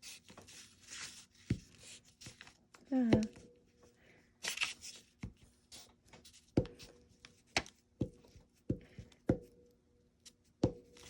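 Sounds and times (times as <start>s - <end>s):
faint paper rustling: 0.0s - 9.1s.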